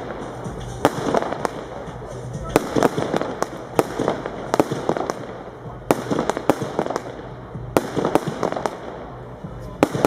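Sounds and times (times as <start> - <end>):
fireworks bangs: 0.0 - 10.0
fireworks crackling: 0.0 - 10.0.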